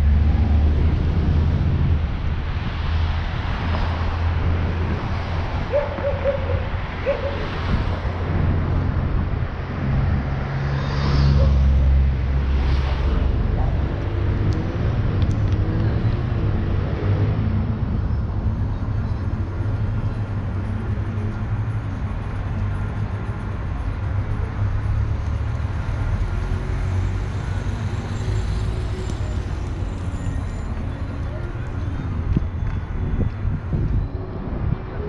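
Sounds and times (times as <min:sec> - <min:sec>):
vehicles rumbling: 0:00.0 - 0:35.0.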